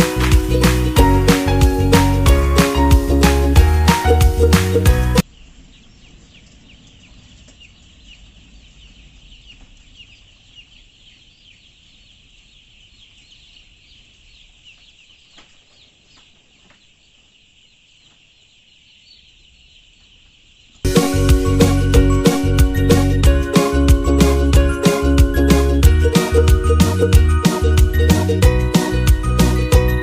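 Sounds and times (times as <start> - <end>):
chickens calling: 0.0 - 30.0.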